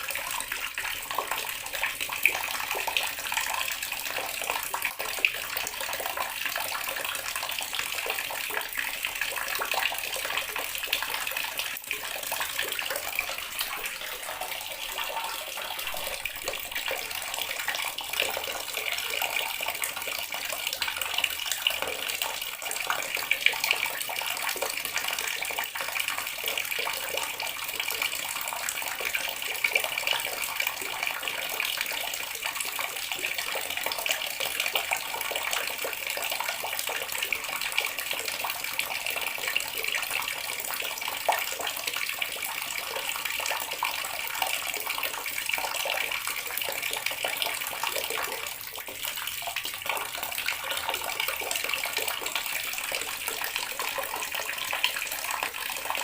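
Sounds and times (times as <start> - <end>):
water running from tap: 0.0 - 56.0.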